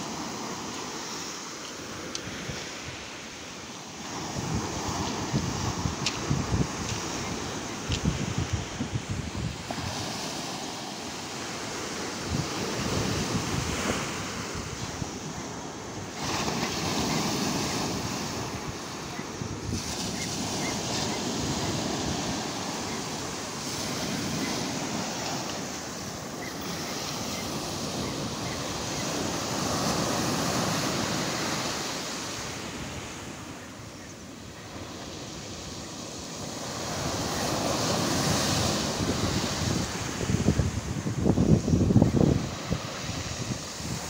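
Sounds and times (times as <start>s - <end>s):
wind buffeting microphone: 4.0s - 33.4s, 36.4s - 44.0s.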